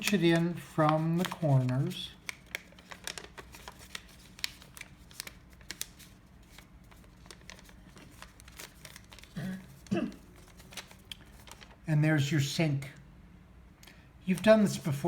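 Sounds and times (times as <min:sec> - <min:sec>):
paper crackling and crinkling: 0:00.0 - 0:11.9, 0:14.3 - 0:15.0.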